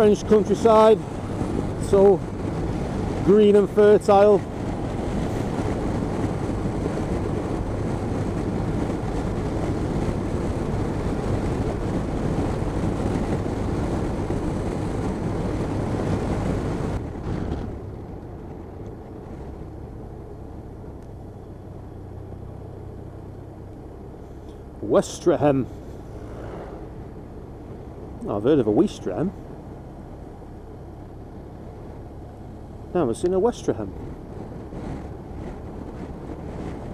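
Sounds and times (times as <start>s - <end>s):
motorcycle engine hum: 0.0s - 36.9s
wind rush on microphone: 0.0s - 36.9s.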